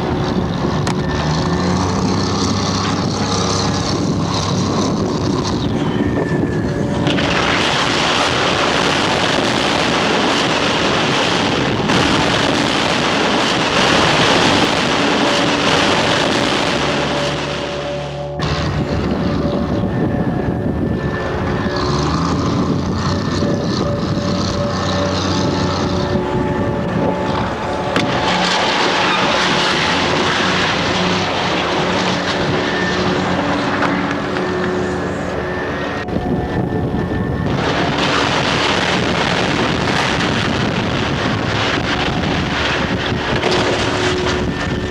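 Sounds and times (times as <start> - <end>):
broad rushing noise: 0.0 - 44.9
diesel engine running: 0.0 - 44.9
wind buffeting microphone: 0.0 - 44.9.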